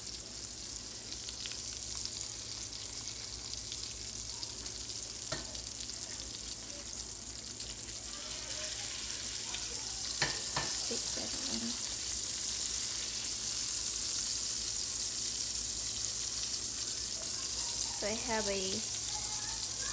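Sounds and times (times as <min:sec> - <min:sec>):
fish sizzling in hot oil: 0:00.0 - 0:19.9.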